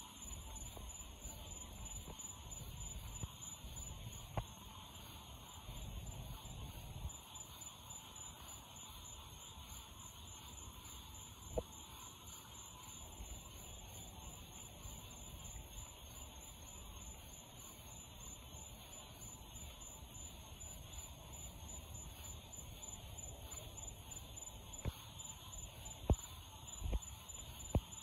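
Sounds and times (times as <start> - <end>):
steady high-pitched hum: 0.0 - 28.0.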